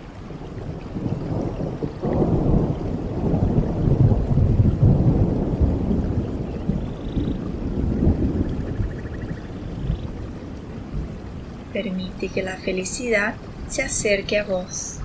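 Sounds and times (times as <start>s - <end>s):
soft rain-like hiss: 0.0s - 15.0s
thunder rumbling: 0.0s - 15.0s.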